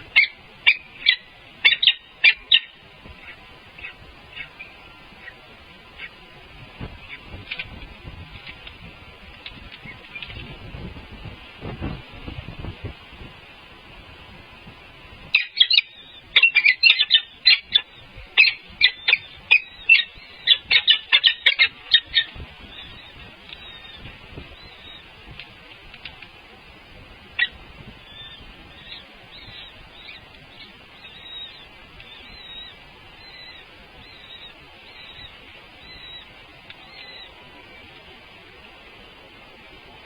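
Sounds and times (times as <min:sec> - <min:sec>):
birds high-pitched calls: 0:00.0 - 0:40.0.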